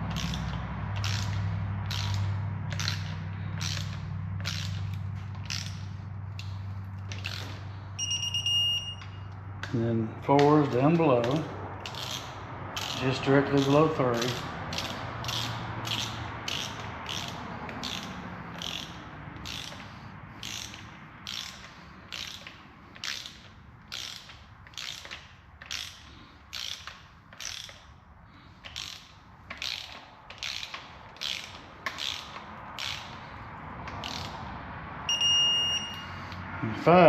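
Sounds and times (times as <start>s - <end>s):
ratchet wrench clicking: 0.0s - 34.5s.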